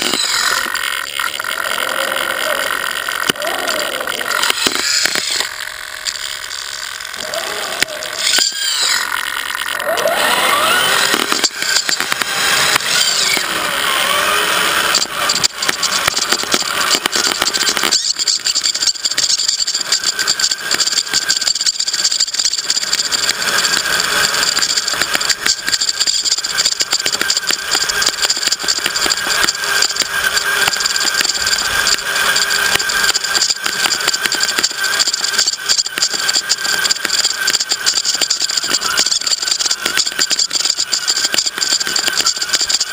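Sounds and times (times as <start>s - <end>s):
chassis clicks and rattles: 0.0s - 42.9s
electric motor and gears whining: 0.0s - 42.9s.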